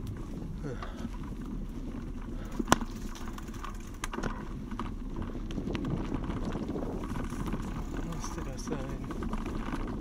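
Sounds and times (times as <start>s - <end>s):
bicycle rattling clicks and knocks: 0.0s - 10.0s
bicycle tyres rumbling on dirt: 0.0s - 10.0s.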